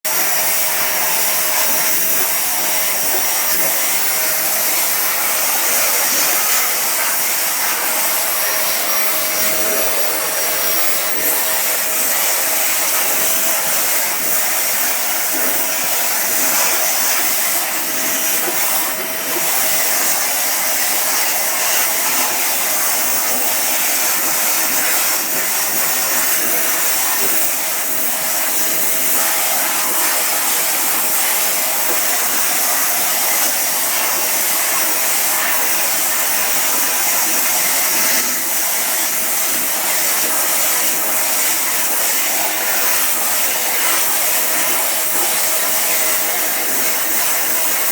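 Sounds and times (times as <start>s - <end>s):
vacuum cleaner motor whine: 0.1s - 47.9s.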